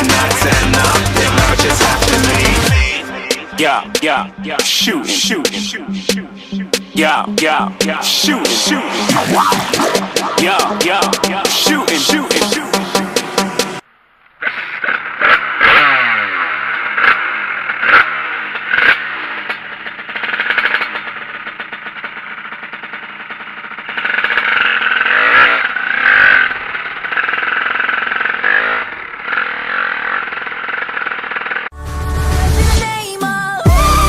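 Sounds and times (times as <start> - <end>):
two-stroke motorcycle engine revving: 0.0 - 32.8.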